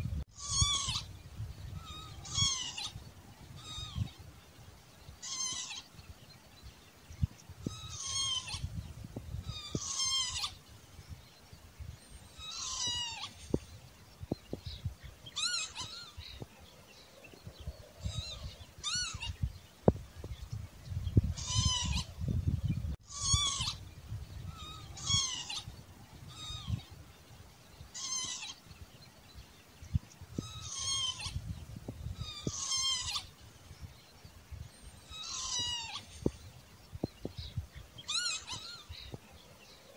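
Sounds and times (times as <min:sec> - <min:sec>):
lapwing calling: 0:00.3 - 0:04.3, 0:05.2 - 0:06.1, 0:07.2 - 0:10.8, 0:12.1 - 0:19.6, 0:20.2 - 0:27.1, 0:27.8 - 0:28.8, 0:29.9 - 0:34.0, 0:34.6 - 0:39.9.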